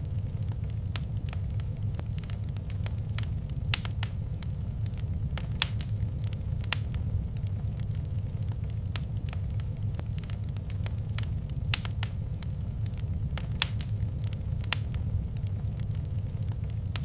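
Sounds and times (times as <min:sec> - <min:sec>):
fire snaps and pops: 0:00.0 - 0:17.0
low rumble of fire: 0:00.0 - 0:17.0.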